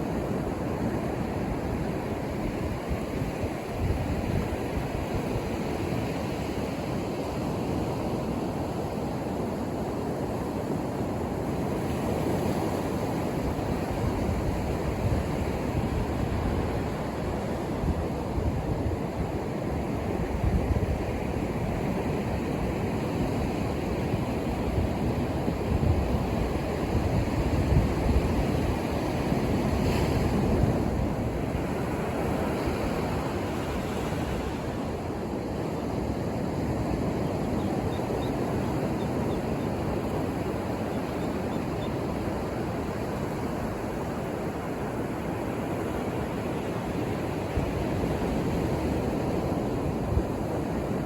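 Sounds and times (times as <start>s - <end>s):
waves breaking on shore: 0.0s - 51.0s
wind rumble on microphone: 0.0s - 51.0s.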